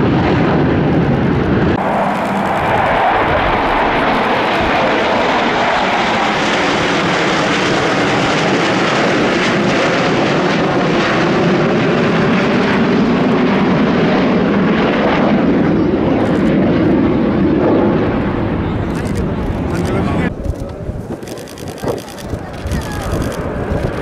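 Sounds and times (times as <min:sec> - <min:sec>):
fighter jets flying past: 0:00.0 - 0:24.0.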